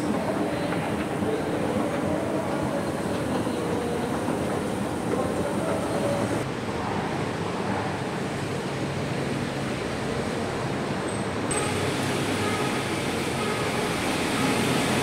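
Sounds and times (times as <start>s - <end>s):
rumble and hiss of traffic: 0.0s - 15.0s.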